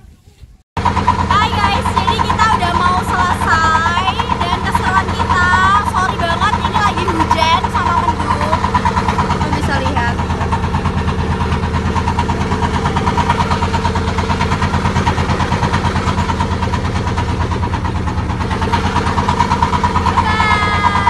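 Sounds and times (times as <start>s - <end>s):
motorboat engine running: 0.2s - 21.0s.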